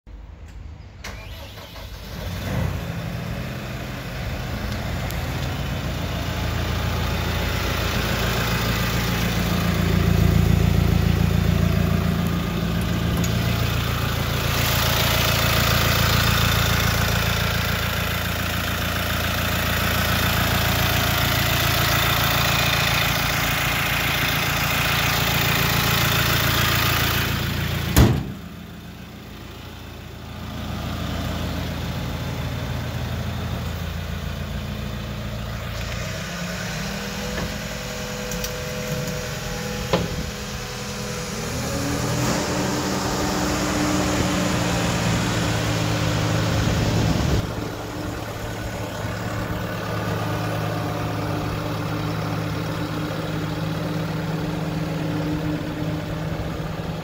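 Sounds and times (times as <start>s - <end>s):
diesel engine running: 0.2s - 57.0s.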